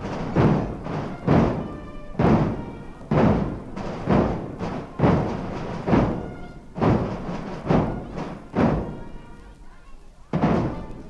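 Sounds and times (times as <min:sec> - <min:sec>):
bass drum beats: 0:00.0 - 0:09.1
marching band playing: 0:00.0 - 0:11.0.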